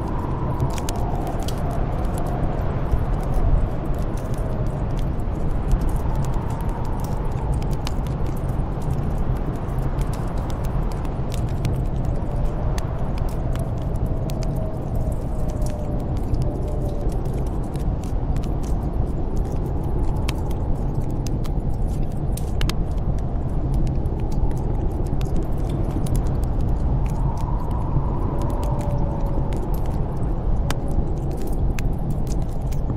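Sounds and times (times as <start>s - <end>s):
wind blowing with whistle: 0.0s - 32.9s
wood fire crackling and popping: 0.0s - 32.9s.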